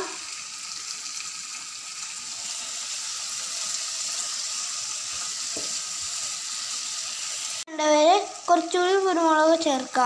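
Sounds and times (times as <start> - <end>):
liver sizzling in oil: 0.0 - 10.0.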